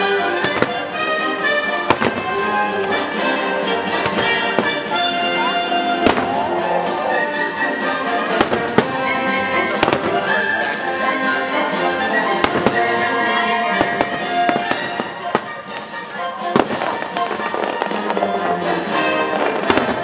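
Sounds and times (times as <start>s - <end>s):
fireworks bangs: 0.0s - 20.0s
orchestral show music: 0.0s - 20.0s.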